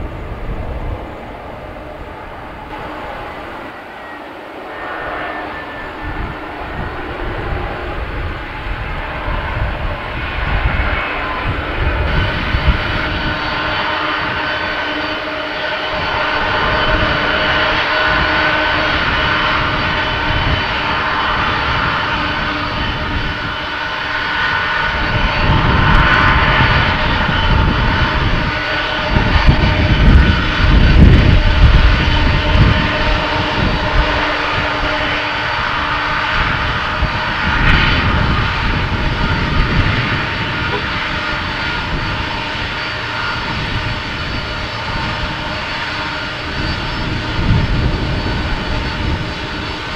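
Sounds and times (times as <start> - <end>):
jet engine whining tones: 0.0 - 49.9
jet engines roaring: 0.0 - 49.9.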